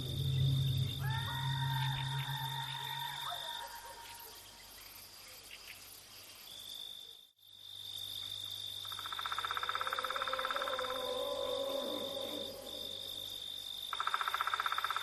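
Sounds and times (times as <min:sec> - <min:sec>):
crickets trilling: 0:00.0 - 0:15.0
lower pulsing insect trill: 0:00.0 - 0:15.0.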